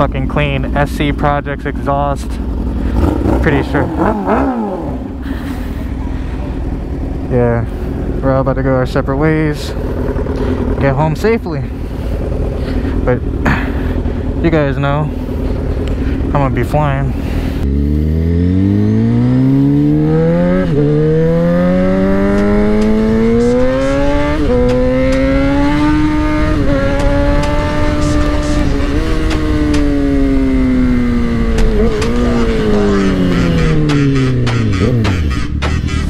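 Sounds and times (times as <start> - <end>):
motorcycle engine accelerating hard: 0.0 - 36.0.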